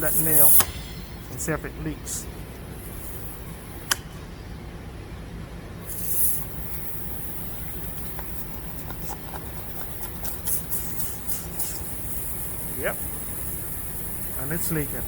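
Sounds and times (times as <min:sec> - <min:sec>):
short air hiss: 0:00.0 - 0:04.6, 0:05.8 - 0:15.0
steady low hum: 0:00.0 - 0:15.0.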